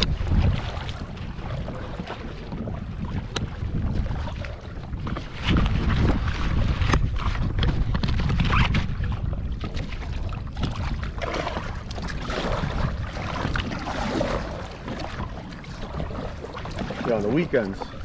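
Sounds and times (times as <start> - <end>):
paddle water splashing and dripping: 0.0 - 18.0
wind rumbling on microphone: 0.0 - 18.0.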